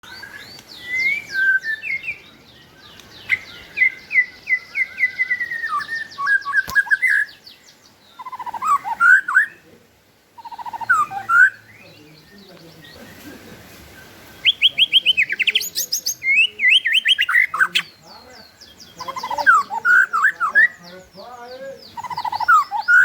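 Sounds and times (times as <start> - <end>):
songbird whistling: 0.0 - 9.6, 10.4 - 13.4, 14.0 - 18.0, 18.6 - 23.0.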